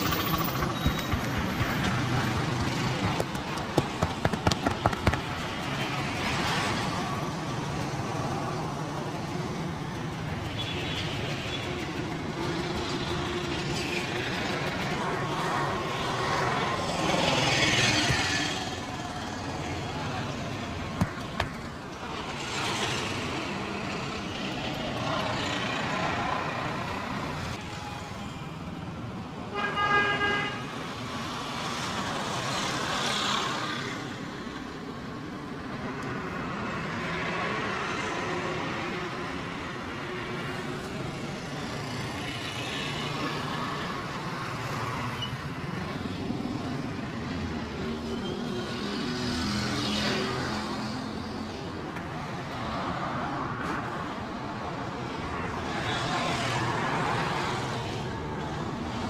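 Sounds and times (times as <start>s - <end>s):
street traffic passing: 0.0s - 59.0s.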